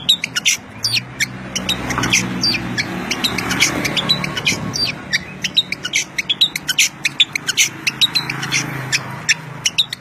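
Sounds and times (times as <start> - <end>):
songbird rapid chirps and whistles: 0.0 - 10.0.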